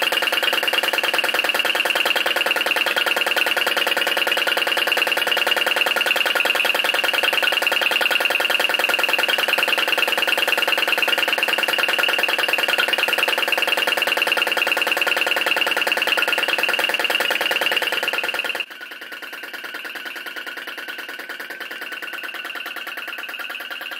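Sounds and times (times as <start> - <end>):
vacuum engine pulsing: 0.0 - 23.9.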